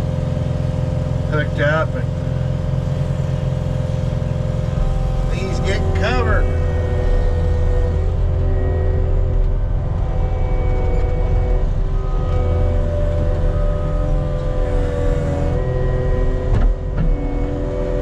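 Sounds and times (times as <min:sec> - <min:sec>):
diesel engine running: 0:00.0 - 0:18.0
hydraulic whine: 0:00.0 - 0:18.0.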